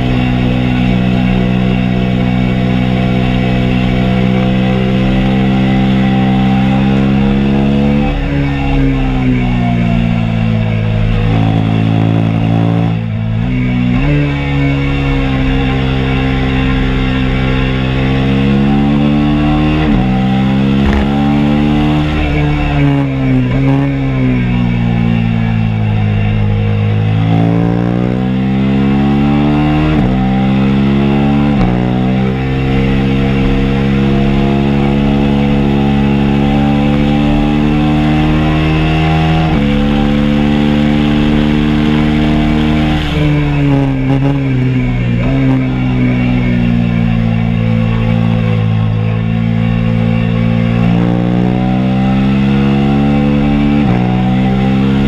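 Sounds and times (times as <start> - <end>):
motorcycle engine revving on track: 0.0 - 55.0.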